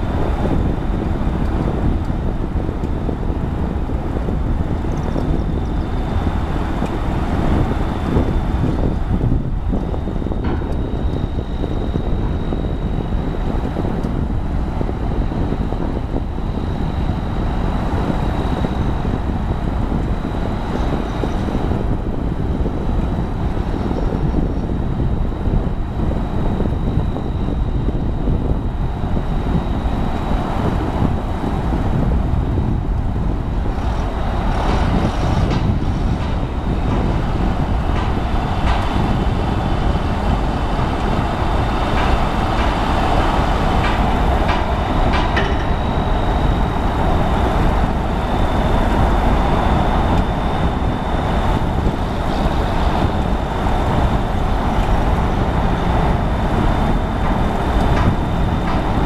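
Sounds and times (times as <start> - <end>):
heavy diesel machinery rumble: 0.0 - 59.0.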